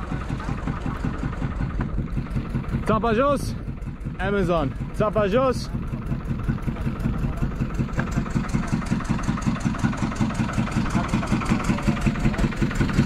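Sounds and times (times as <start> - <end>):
boat engine pulsing: 0.0 - 13.0.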